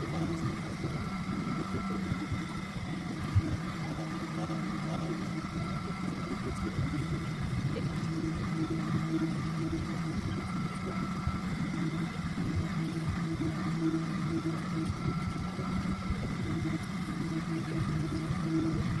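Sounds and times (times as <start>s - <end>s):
small motor humming: 0.0s - 19.0s.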